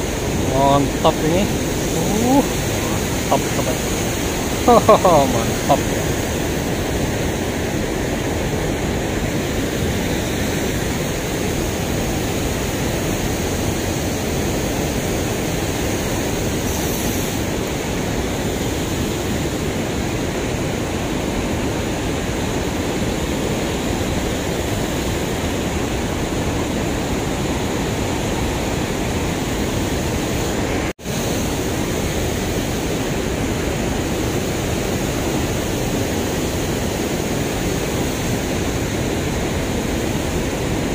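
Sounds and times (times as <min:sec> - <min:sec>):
river water pouring over a weir: 0:00.0 - 0:40.9.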